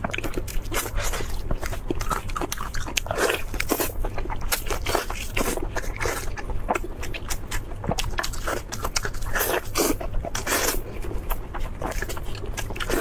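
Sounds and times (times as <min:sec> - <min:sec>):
crunching crispy food: 0:00.0 - 0:13.0.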